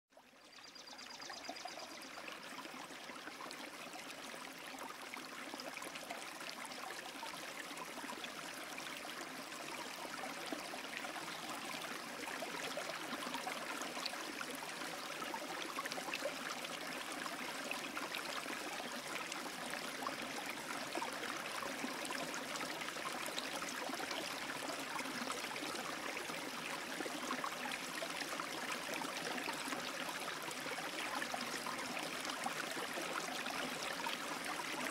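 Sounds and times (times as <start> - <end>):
trickling water: 0.1 - 34.9.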